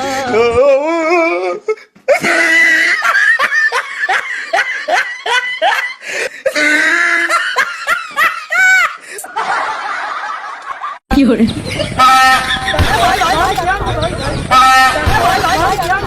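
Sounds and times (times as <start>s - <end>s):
loud laughter: 2.1s - 11.0s, 11.6s - 16.0s.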